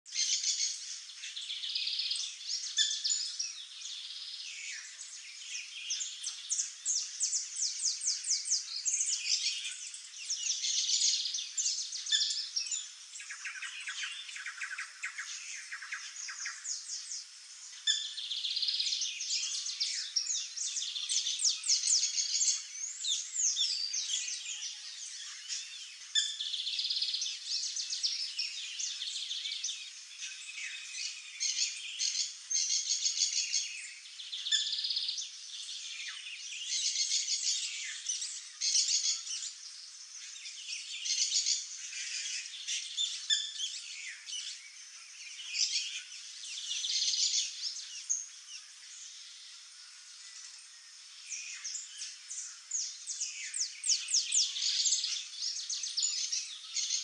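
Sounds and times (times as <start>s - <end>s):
finches chirping and trilling: 0.1s - 57.0s.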